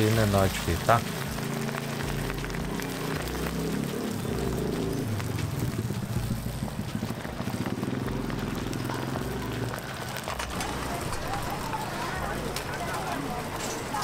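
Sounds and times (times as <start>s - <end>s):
batter deep-frying in oil: 0.0s - 14.0s
street background hum: 0.0s - 14.0s.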